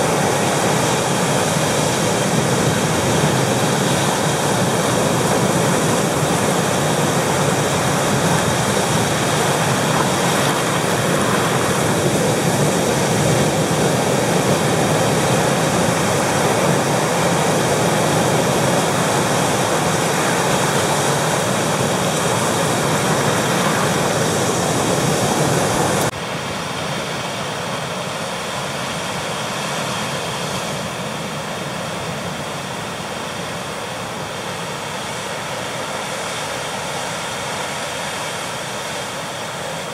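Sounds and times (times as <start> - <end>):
ocean waves breaking over rocks: 0.0 - 39.9.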